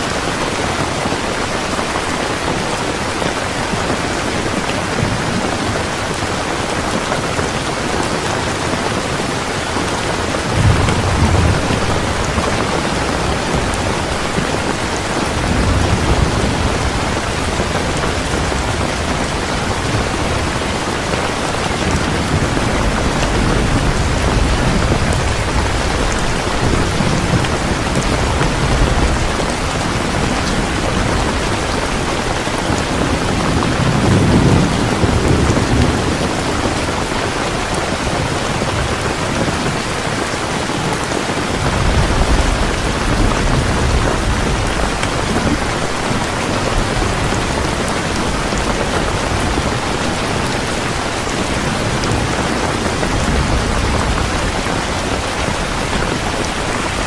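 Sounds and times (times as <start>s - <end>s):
heavy rain falling: 0.0s - 57.0s
thunder rumbling: 0.1s - 57.0s.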